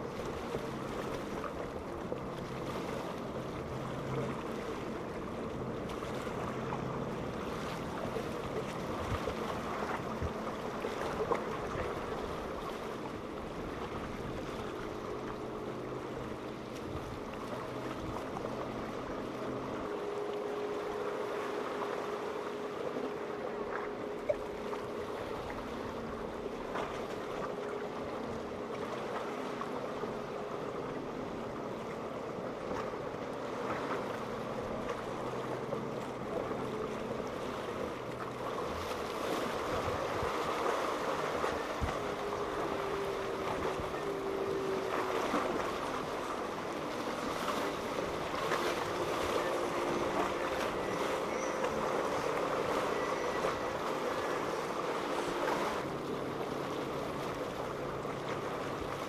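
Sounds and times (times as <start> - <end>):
boat engines running: 0.0 - 59.0
waves washing: 0.0 - 59.0.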